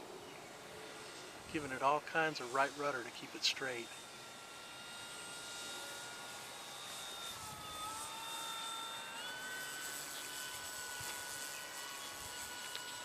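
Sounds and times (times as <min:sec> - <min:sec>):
model airplane propeller whine: 0:00.0 - 0:13.0.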